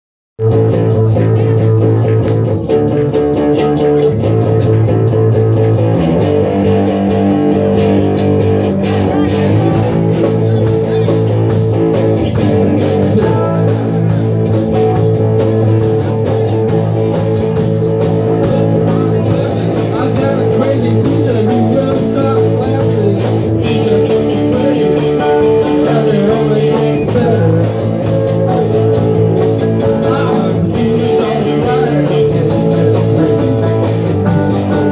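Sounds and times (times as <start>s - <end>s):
bass guitar: 0.4s - 34.9s
drum kit playing: 0.4s - 34.9s
electric guitars: 0.4s - 34.9s.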